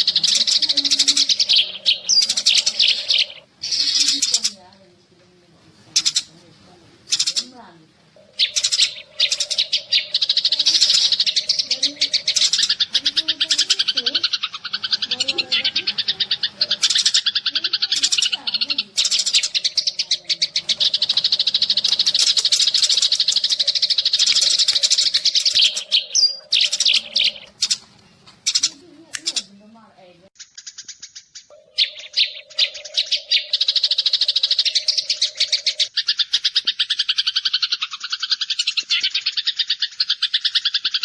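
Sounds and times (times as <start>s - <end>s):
sparrows chattering: 0.0s - 41.0s.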